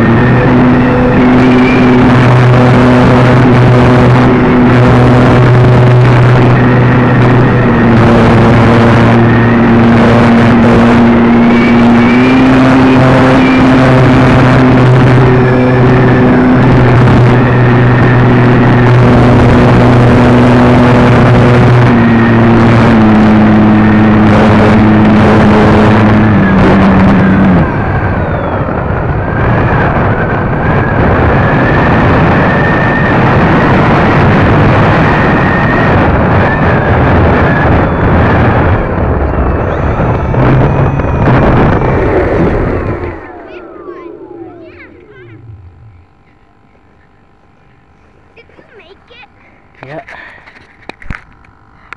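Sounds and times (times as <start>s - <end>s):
wind rush: 0.0s - 48.4s
electric motor and propeller hum: 0.0s - 51.9s.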